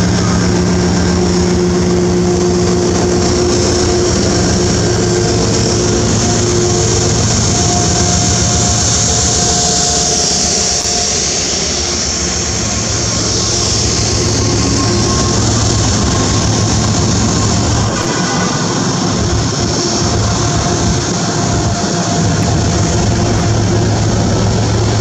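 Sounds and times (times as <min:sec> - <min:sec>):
faint whine: 0:00.0 - 0:25.0
locomotive engine hum: 0:00.0 - 0:25.0
strong high hiss: 0:00.0 - 0:25.0.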